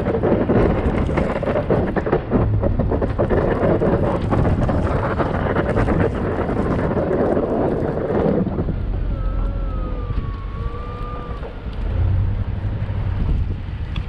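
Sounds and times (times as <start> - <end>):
blizzard wind buffeting microphone: 0.0 - 14.0.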